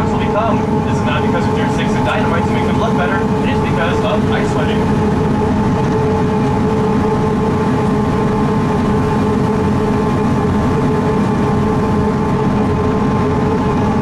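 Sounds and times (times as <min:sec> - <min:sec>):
diesel railcar rumbling: 0:00.0 - 0:14.0.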